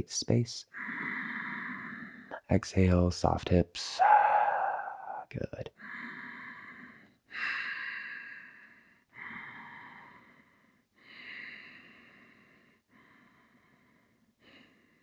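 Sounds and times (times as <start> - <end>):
person breathing through nose: 0.7 - 2.4, 4.0 - 15.0.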